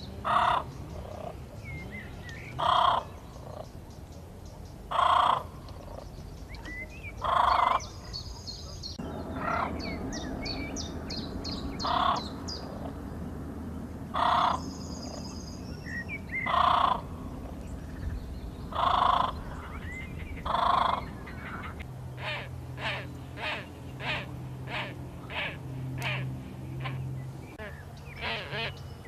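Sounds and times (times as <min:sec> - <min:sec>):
bird harsh calls: 0:00.0 - 0:03.8, 0:04.9 - 0:13.0, 0:14.1 - 0:29.0
small birds twittering: 0:00.0 - 0:29.0.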